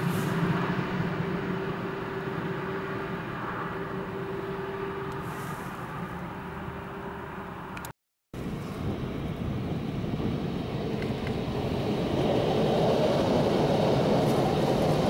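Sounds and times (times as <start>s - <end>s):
train passing at speed: 0.0s - 7.6s, 8.4s - 15.0s.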